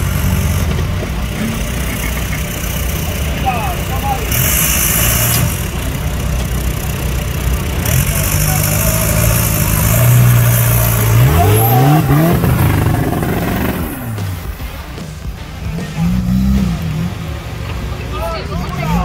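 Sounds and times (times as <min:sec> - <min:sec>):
diesel engine labouring and revving: 0:00.0 - 0:19.0.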